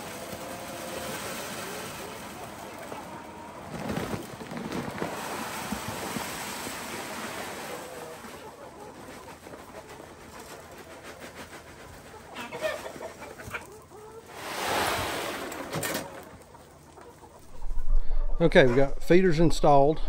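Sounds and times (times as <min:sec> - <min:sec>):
chickens clucking: 0:00.0 - 0:06.2, 0:07.0 - 0:19.0.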